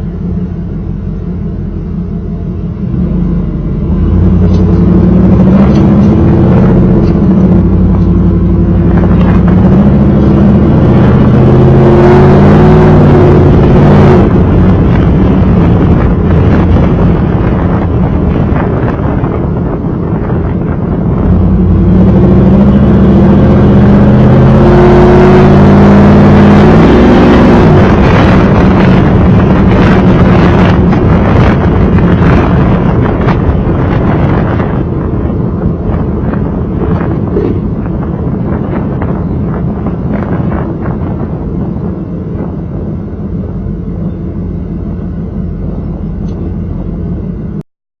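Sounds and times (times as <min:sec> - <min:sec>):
car engine exhaust note: 0:00.0 - 0:47.6
rushing wind noise: 0:00.0 - 0:47.6.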